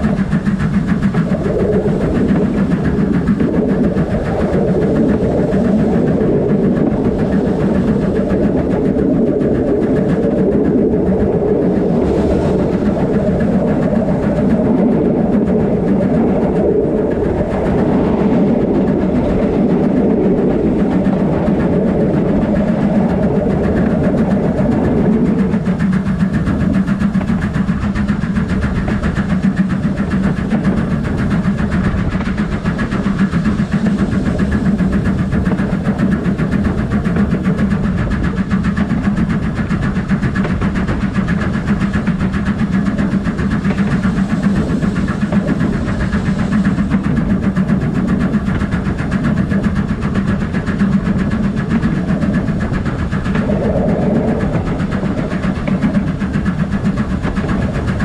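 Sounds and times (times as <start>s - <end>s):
steam locomotive running: 0.0s - 58.0s.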